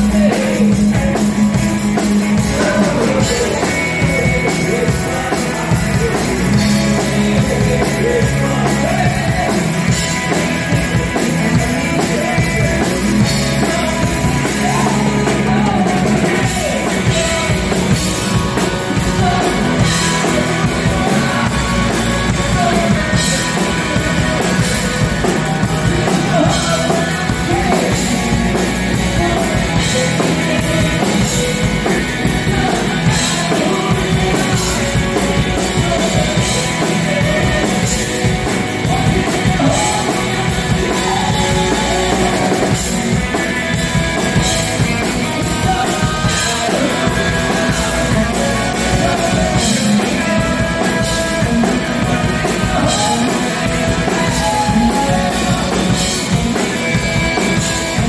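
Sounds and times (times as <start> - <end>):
bass guitar: 0.0 - 58.0
drum kit with cymbal crashes: 0.0 - 58.0
electric guitars: 0.0 - 58.0
person singing: 0.0 - 58.0.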